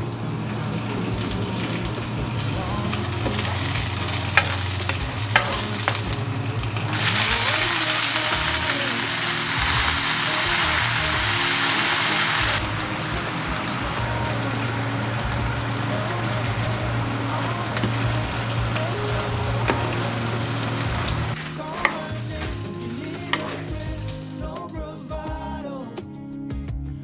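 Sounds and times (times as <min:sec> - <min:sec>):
food sizzling in a pan: 0:00.0 - 0:24.4
background music: 0:00.0 - 0:27.0.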